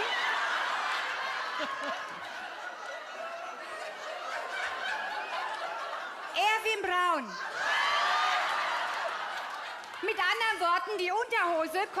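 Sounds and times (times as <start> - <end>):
audience laughing: 0.0 - 10.5.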